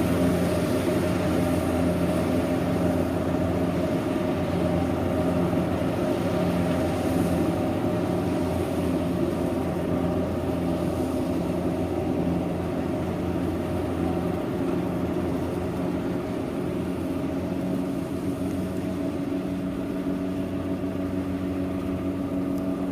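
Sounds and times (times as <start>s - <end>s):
combine harvester diesel engine: 0.0s - 22.9s.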